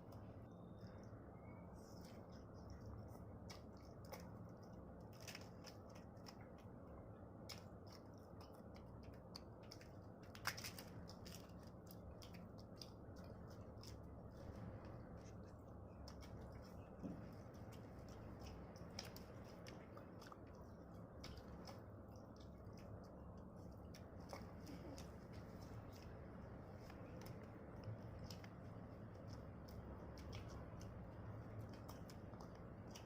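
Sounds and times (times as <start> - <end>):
steady low hum: 0.0 - 33.0
wet chewing mouth clicks: 0.0 - 33.0.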